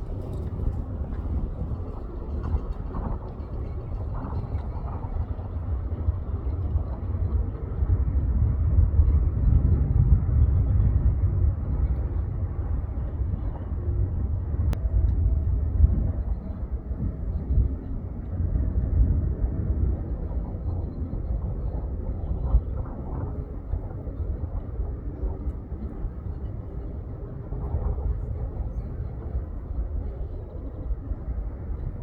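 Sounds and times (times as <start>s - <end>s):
distant jet landing rumble: 0.0s - 32.0s.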